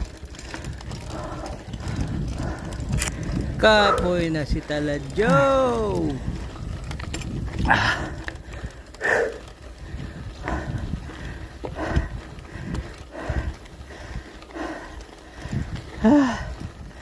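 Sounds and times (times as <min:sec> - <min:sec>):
cyclist breathing hard: 0:00.0 - 0:17.0
wind on microphone: 0:00.0 - 0:17.0.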